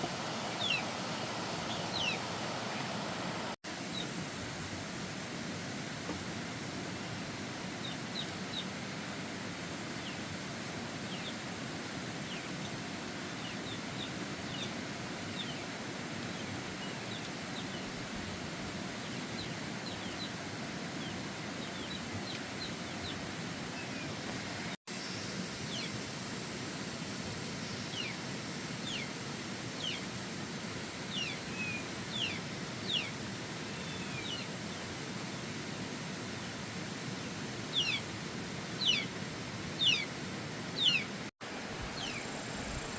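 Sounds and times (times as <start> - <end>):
outdoor background hiss: 0.0 - 42.9.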